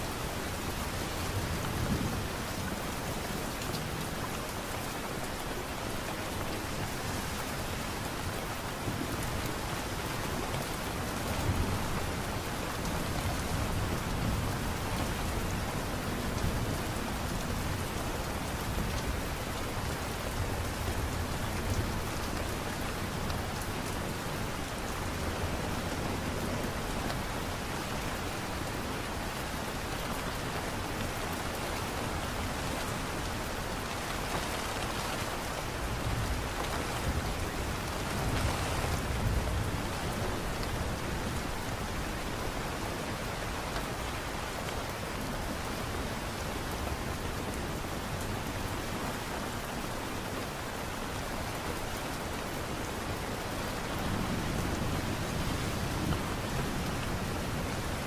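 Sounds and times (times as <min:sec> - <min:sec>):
light rain pattering: 0:00.0 - 0:58.0.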